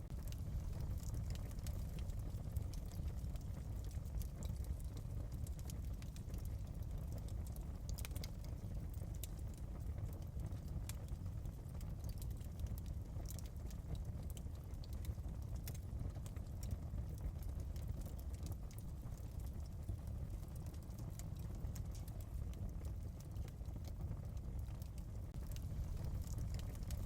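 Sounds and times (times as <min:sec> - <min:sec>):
fire rumbling: 0:00.0 - 0:27.0
wood fire crackling and popping: 0:00.0 - 0:27.0.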